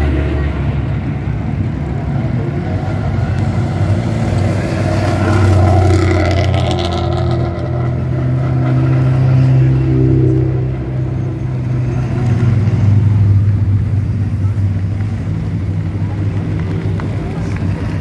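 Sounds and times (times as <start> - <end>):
race car engines passing: 0.0 - 18.0.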